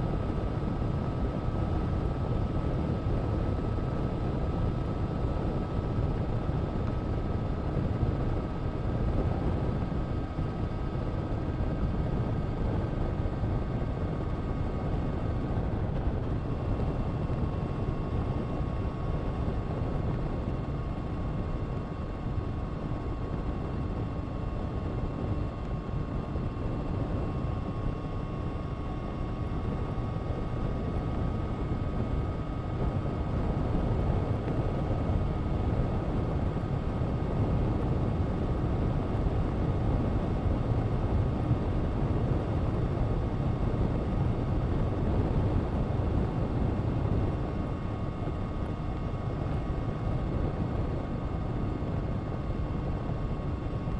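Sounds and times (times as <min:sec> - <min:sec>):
motorcycle engine running steadily: 0:00.0 - 0:53.9.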